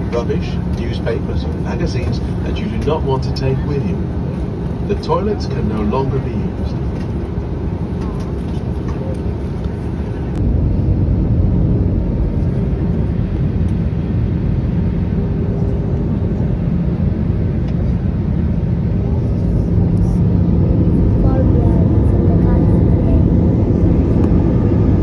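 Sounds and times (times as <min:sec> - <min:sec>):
airliner cabin airflow and engine noise: 0:00.0 - 0:25.0
faint hum: 0:00.0 - 0:25.0.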